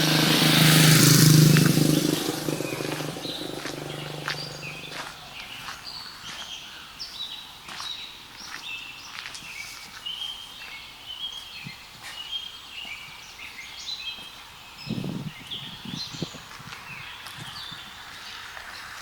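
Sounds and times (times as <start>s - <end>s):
birds singing and chirping: 0.0s - 19.0s.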